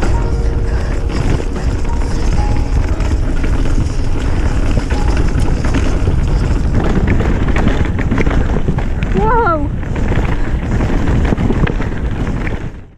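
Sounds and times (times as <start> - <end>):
bike clicks and rattles: 0.0 - 12.9
tyres rumbling on trail: 0.0 - 12.9
wind buffeting microphone: 0.0 - 12.9.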